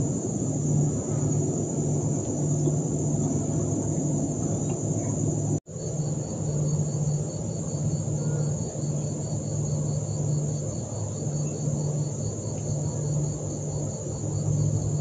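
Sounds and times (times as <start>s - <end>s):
crickets shrilling and chirping: 0.0s - 15.0s
low pulsing drone: 0.0s - 15.0s.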